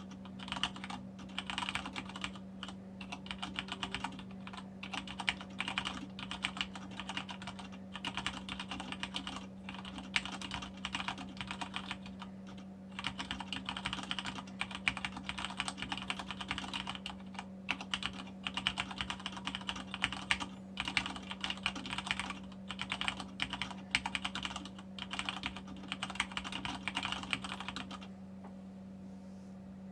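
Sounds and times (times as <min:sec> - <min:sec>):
fast typing on mechanical keyboard: 0:00.0 - 0:28.1.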